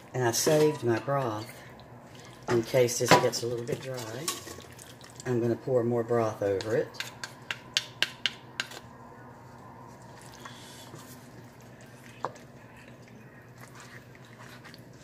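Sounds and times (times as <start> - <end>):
spoon stirring thick filling: 0.2 - 15.0.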